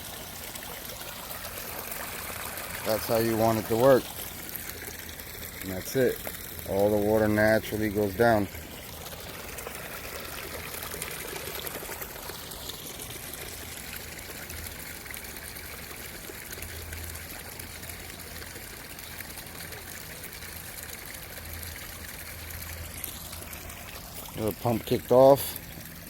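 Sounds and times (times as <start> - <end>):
water trickling from a drain: 0.0 - 26.0.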